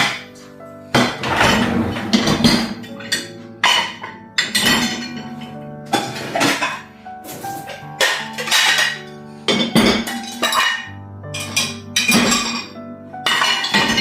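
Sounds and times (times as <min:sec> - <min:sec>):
background music: 0:00.0 - 0:14.0
dishes and cutlery clattering: 0:00.0 - 0:14.0.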